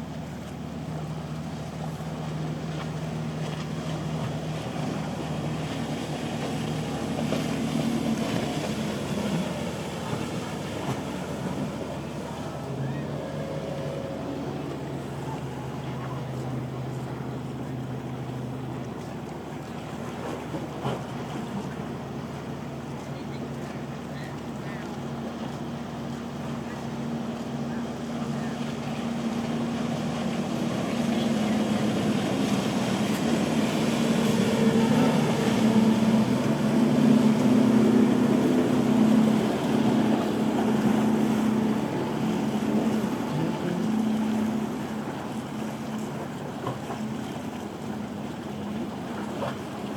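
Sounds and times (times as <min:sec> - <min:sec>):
motorboat engines: 0:00.0 - 0:49.9
water noise: 0:00.0 - 0:49.9
wind: 0:00.0 - 0:49.9.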